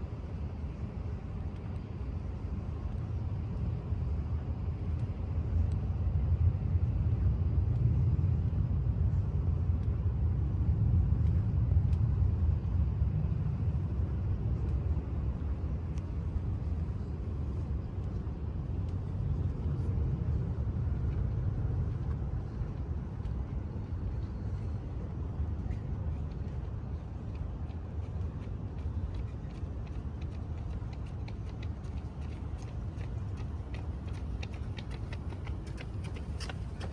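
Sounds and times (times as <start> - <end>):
low urban rumble: 0.0 - 36.9.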